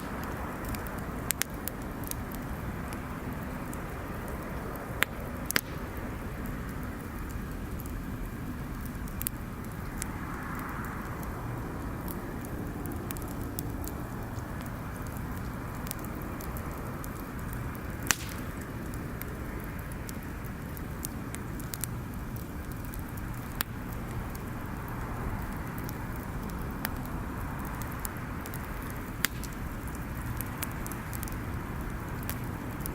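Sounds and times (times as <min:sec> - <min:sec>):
bonfire crackling: 0:00.0 - 0:32.9
sharp pops from fire: 0:00.0 - 0:32.9.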